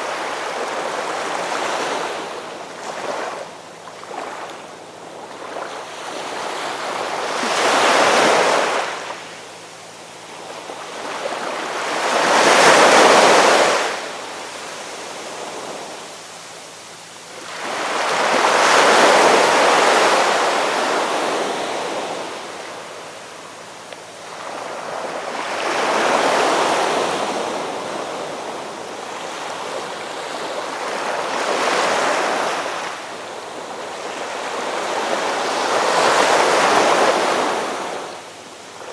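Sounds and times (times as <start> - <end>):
ocean waves breaking: 0.0 - 9.3, 10.3 - 16.0, 17.3 - 38.9.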